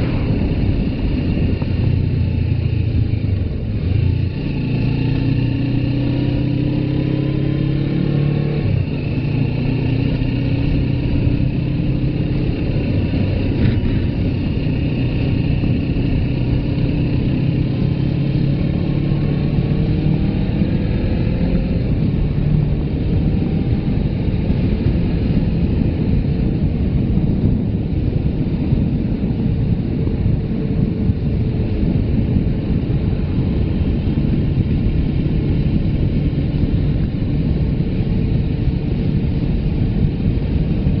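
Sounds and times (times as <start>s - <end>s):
motorcycle engine running: 0.0s - 41.0s
wind and road noise: 0.0s - 41.0s.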